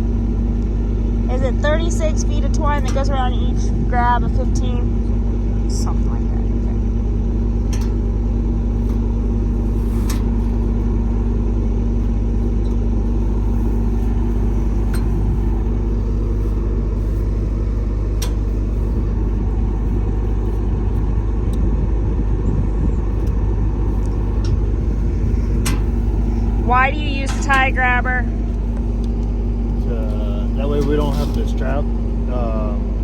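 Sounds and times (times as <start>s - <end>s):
heavy engine rumbling: 0.0s - 33.0s.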